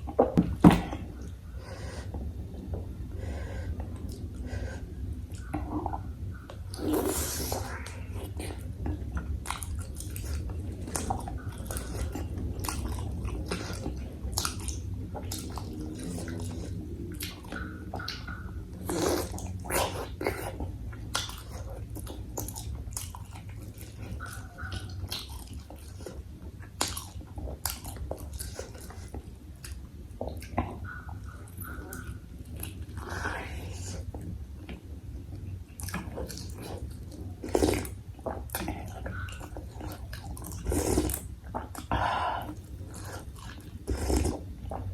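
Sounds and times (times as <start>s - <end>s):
steady low hum: 0.0s - 44.9s
chewing with wet smacks: 3.8s - 44.9s.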